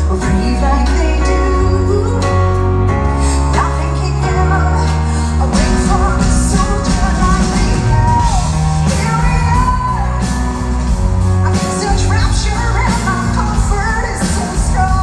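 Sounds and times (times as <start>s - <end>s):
live rock band: 0.0s - 15.0s
woman singing: 0.0s - 15.0s.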